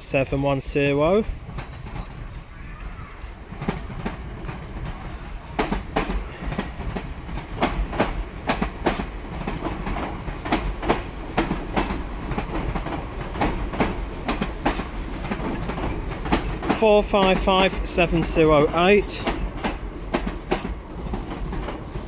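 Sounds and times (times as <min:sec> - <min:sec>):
low train rumble: 0:00.0 - 0:22.0
train wheels clacking over rail joints: 0:03.4 - 0:22.0.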